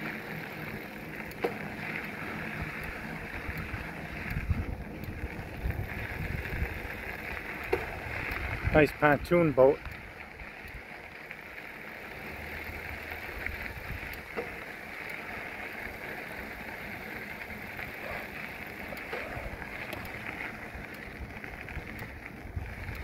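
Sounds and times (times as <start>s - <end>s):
bicycle tyres rolling on gravel: 0.0s - 23.0s.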